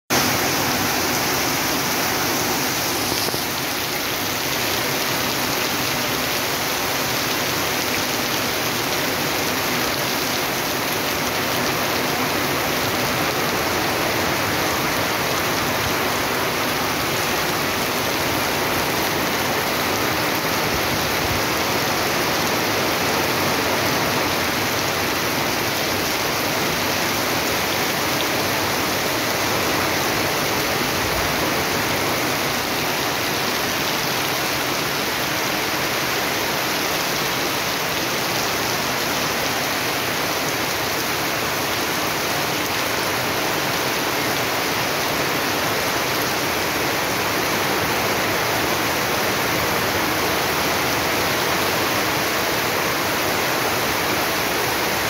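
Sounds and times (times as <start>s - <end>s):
heavy rain splashing: 0.1s - 55.0s.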